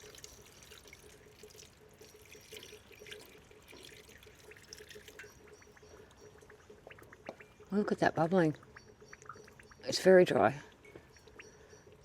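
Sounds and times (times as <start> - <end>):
soil bubbling and popping: 0.0 - 12.0.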